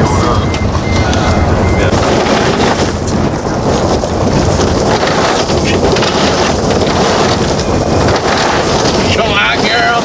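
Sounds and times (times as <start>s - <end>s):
car road noise: 0.0s - 10.0s
wind rushing over microphone: 0.0s - 10.0s.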